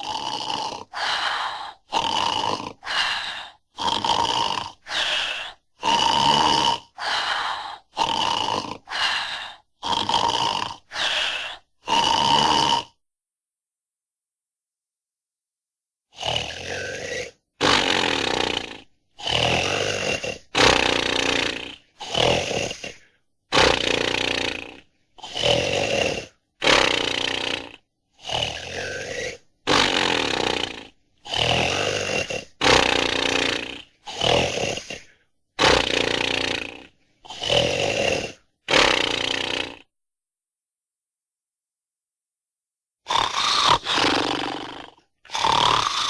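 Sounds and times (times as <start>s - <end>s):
loud rasping cartoon snore: 0.0s - 13.0s, 16.1s - 39.9s, 43.0s - 46.0s.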